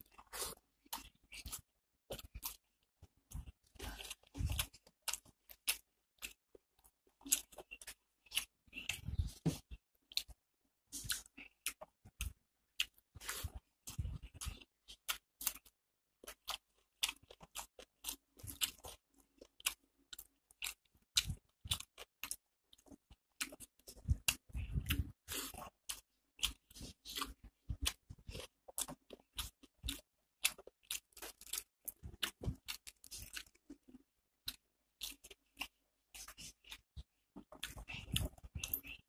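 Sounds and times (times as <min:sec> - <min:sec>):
chewing crunchy food: 0:00.0 - 0:39.0.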